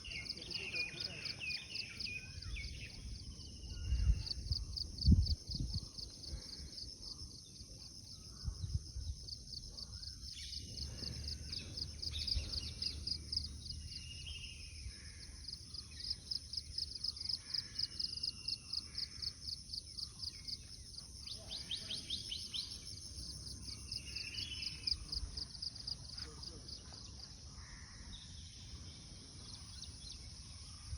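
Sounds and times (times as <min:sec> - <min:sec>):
insects chirping: 0:00.0 - 0:30.9.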